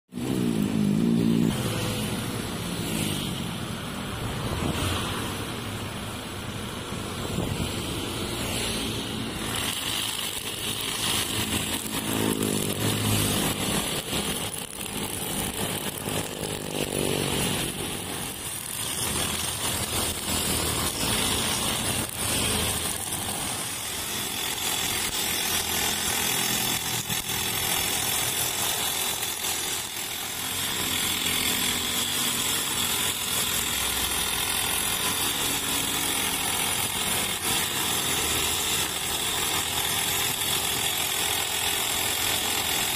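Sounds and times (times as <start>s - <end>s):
brush cutter engine at high revs: 0.1s - 42.9s.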